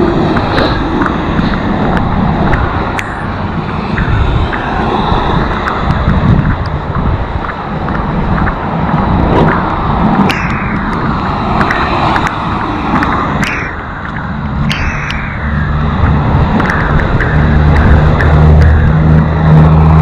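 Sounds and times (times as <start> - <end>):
steady rush of traffic noise: 0.0 - 20.0
tyres swishing on wet road: 0.0 - 20.0
vehicle engine hum: 0.0 - 20.0.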